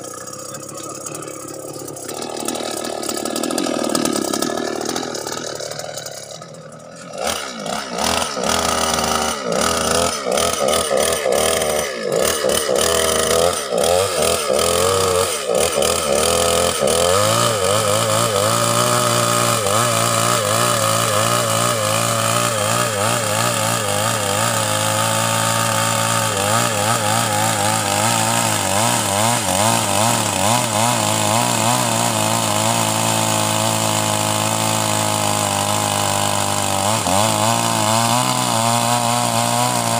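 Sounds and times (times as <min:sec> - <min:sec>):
chainsaw cutting log: 0:00.0 - 0:39.9
chainsaw engine revving: 0:00.0 - 0:39.9.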